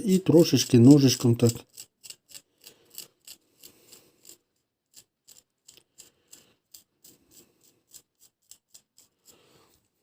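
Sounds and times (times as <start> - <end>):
knife scraping washers: 1.4 - 9.7.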